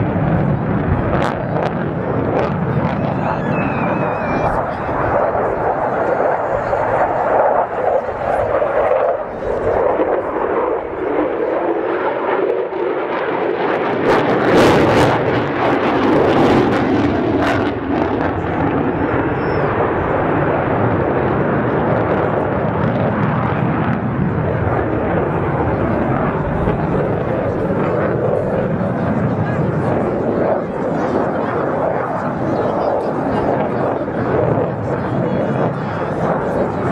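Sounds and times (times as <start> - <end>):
jet engine noise: 0.0 - 36.9.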